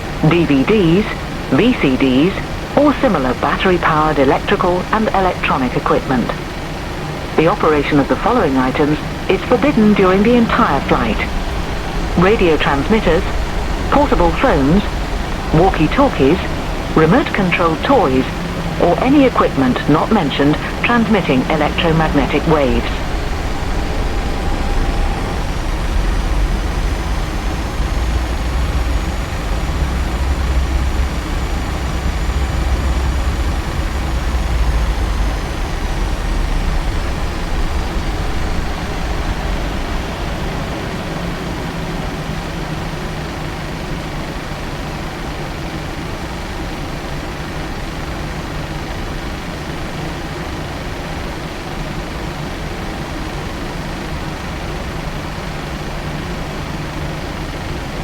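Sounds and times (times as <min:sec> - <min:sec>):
airplane cabin engine rumble: 0:00.0 - 0:51.8
faint high whine: 0:00.0 - 0:58.0.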